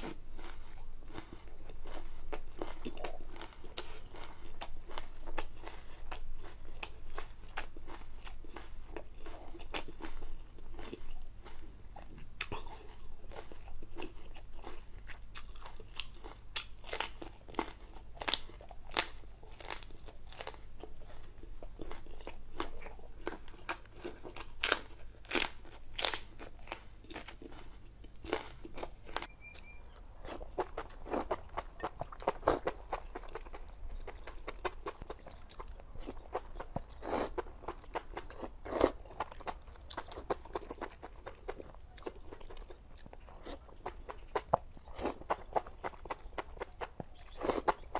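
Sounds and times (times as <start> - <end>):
crunching and chewing: 0.0 - 47.9.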